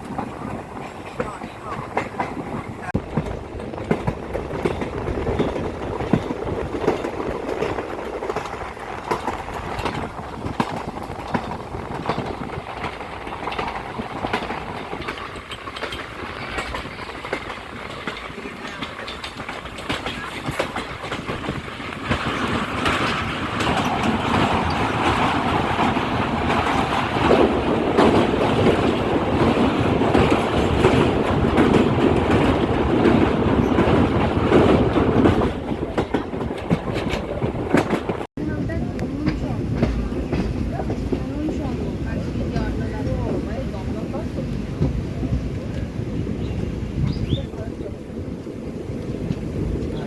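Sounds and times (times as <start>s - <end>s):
train rolling noise: 0.0s - 50.0s
train wheels clicking over rail joints: 0.0s - 50.0s.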